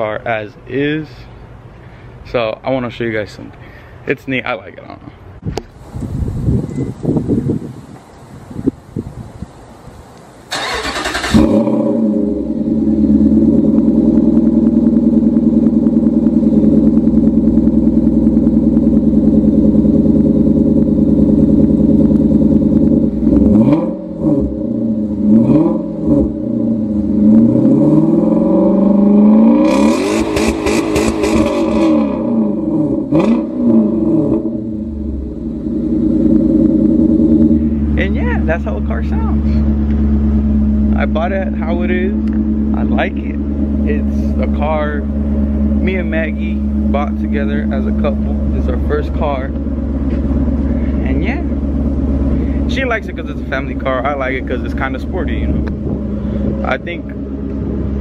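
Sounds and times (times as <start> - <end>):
car engine starting: 5.6 - 58.0
car engine idling: 5.7 - 58.0
car engine revving: 10.3 - 58.0.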